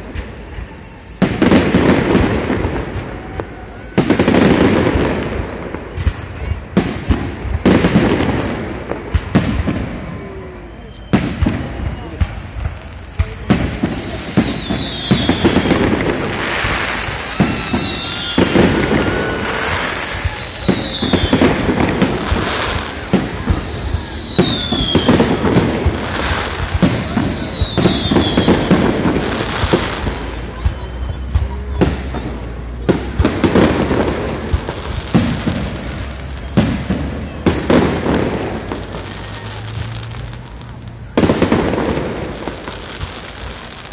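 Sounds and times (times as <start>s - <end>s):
falling firework whistle: 0.0s - 5.4s, 6.1s - 43.9s
fireworks bangs and crackles: 0.0s - 43.9s.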